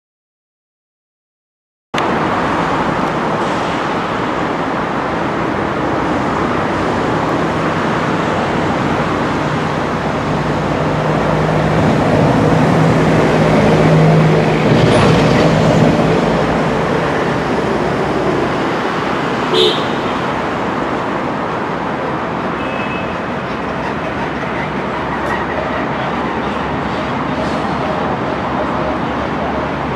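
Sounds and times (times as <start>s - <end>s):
traffic noise: 2.0s - 29.9s.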